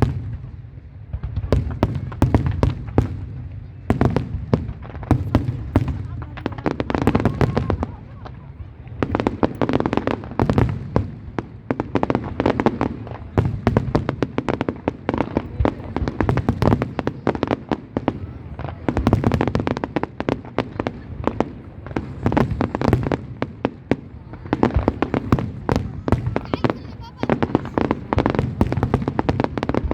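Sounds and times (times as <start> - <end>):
fireworks crackling and banging: 0.0 - 29.9.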